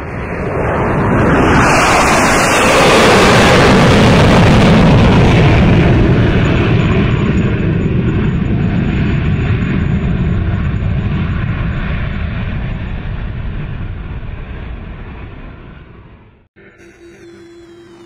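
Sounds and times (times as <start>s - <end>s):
airplane passing: 0.0s - 18.0s.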